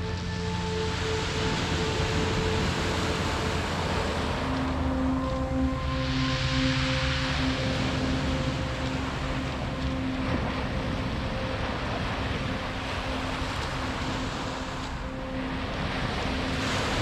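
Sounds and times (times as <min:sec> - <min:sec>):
faint background music: 0:00.0 - 0:17.0
sea waves washing onto beach: 0:00.0 - 0:17.0.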